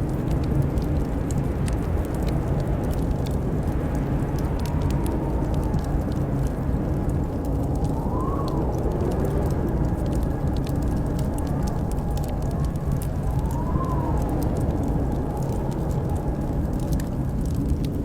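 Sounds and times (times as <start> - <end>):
howling blizzard wind: 0.0 - 18.0.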